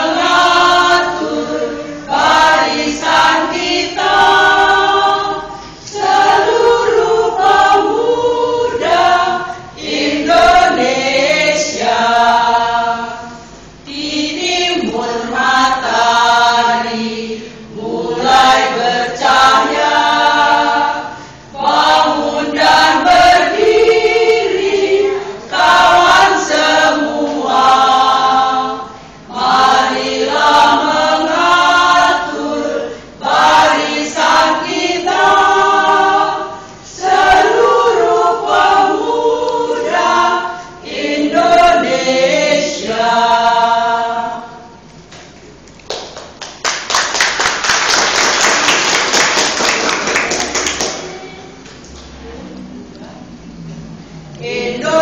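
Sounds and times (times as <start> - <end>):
women's choir singing: 0.0 - 44.9, 54.3 - 55.0.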